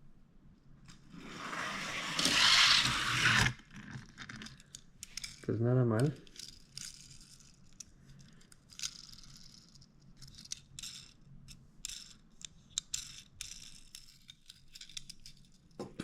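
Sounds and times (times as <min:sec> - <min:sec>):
toy car clicks and rattles: 0:02.1 - 0:15.8.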